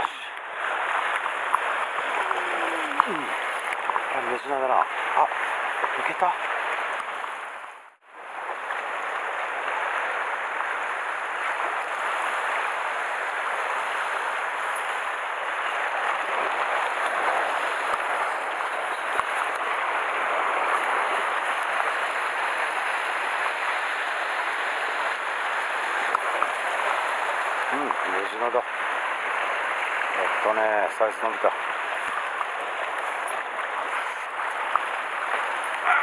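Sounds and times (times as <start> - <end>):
waves washing against rocks: 0.0 - 7.5, 8.3 - 36.0.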